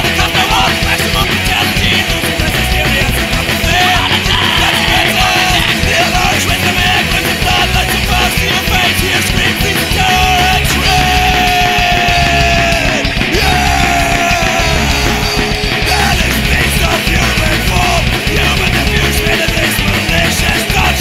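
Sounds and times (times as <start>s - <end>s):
punk rock band playing: 0.0s - 21.0s.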